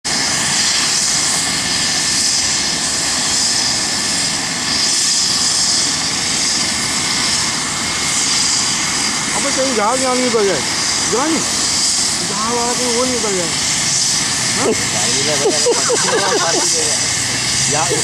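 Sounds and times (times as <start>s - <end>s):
helicopter turbine whine: 0.0s - 18.0s.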